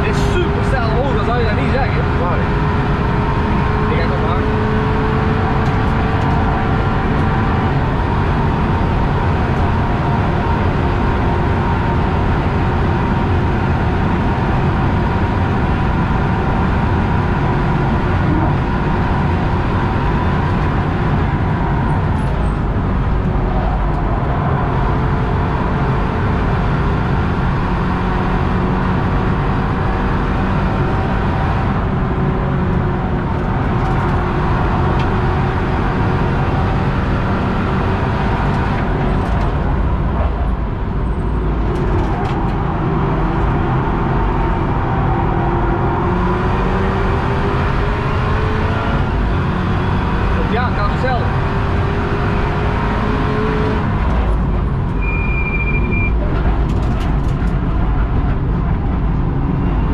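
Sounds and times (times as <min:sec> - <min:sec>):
car engine under load: 0:00.0 - 0:59.9
road and wind noise: 0:00.0 - 0:59.9.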